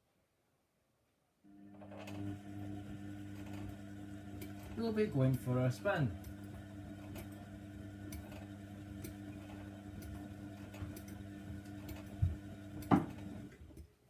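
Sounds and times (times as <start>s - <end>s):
washing machine motor hum: 1.5s - 13.8s.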